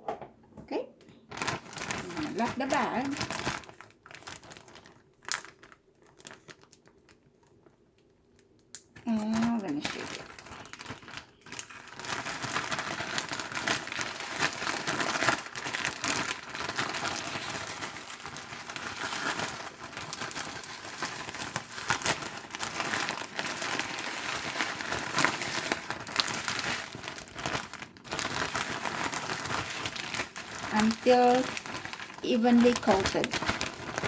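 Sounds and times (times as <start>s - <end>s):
plastic bag crinkling: 1.1s - 34.0s.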